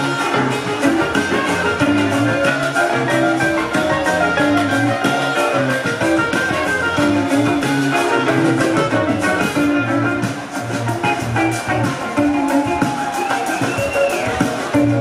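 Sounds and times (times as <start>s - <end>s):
live band playing samba: 0.0s - 15.0s.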